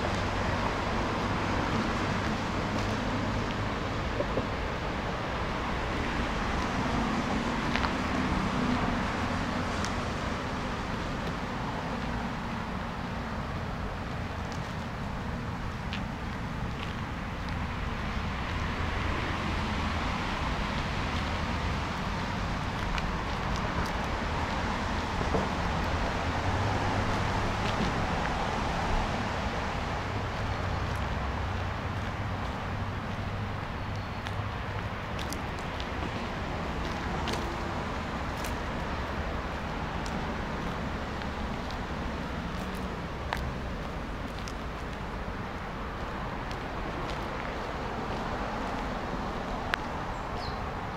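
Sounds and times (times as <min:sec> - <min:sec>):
outdoor background rumble: 0:00.0 - 0:50.9.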